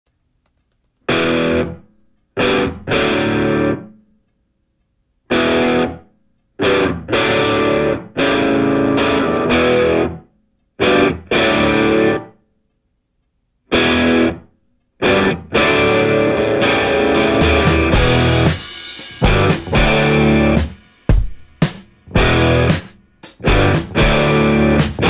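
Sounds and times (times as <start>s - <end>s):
distorted electric guitar: 1.1s - 4.0s, 5.3s - 6.0s, 6.6s - 12.4s, 13.7s - 25.0s.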